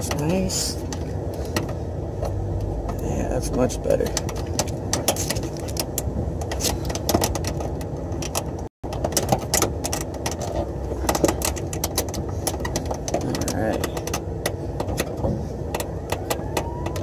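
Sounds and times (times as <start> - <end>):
low background rumble: 0.0 - 17.0
wires clicking and rattling: 0.0 - 17.0.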